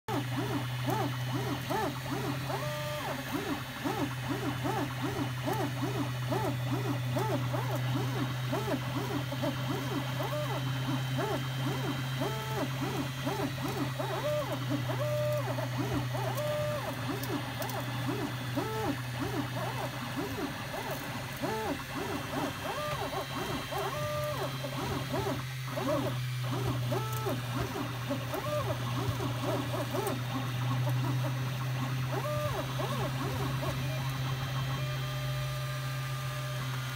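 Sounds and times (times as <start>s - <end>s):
stepper motor whines: 0.1s - 36.9s.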